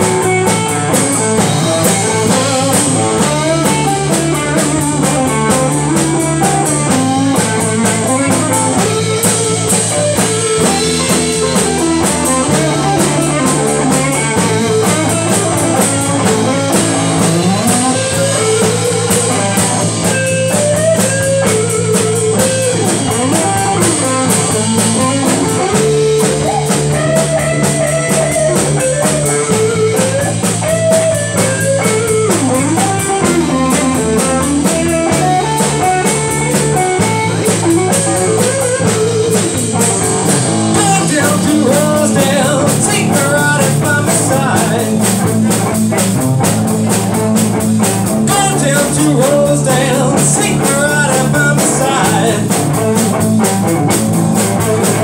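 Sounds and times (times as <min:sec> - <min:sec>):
blues rock band playing: 0:00.0 - 0:55.0
drum kit: 0:00.0 - 0:55.0
electric guitar lead: 0:00.0 - 0:55.0.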